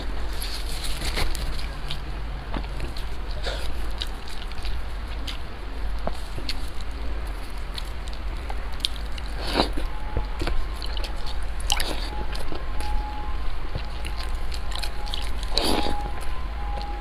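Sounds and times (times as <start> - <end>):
wet chewing and mouth smacks: 0.0 - 17.0.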